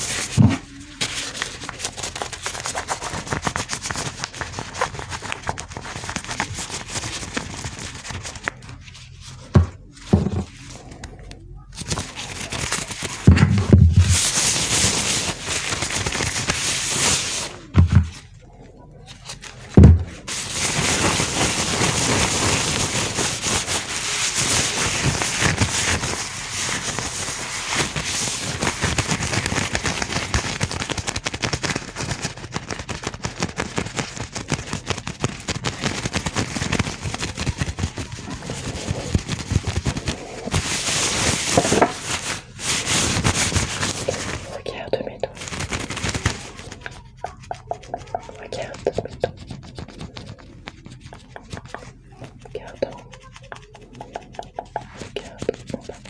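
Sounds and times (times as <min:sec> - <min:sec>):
gloved hands crinkling: 0:00.0 - 0:09.5, 0:10.5 - 0:18.2, 0:19.1 - 0:44.6, 0:45.2 - 0:56.0.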